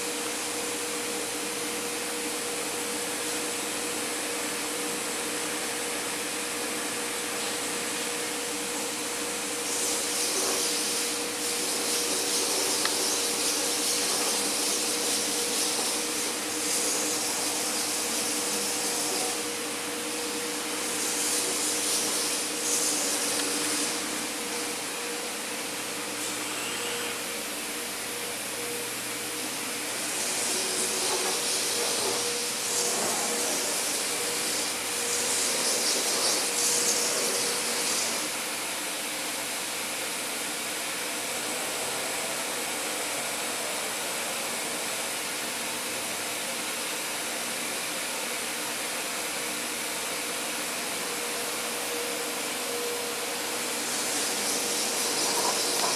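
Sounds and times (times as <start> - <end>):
cnc router hissing: 0.0 - 55.9.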